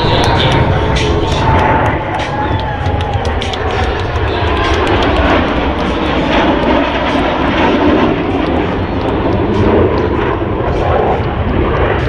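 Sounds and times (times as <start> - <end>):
jet noise flying past: 0.0 - 12.0.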